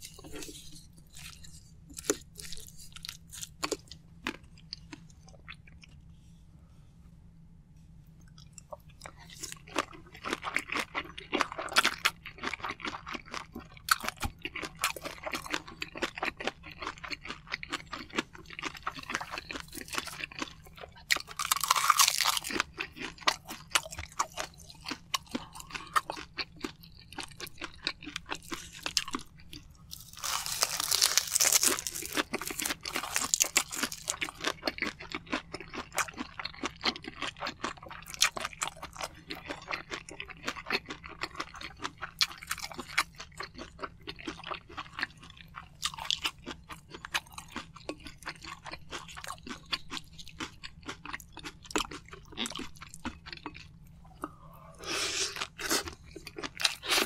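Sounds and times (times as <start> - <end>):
person chewing: 0.0 - 6.1, 8.2 - 57.0.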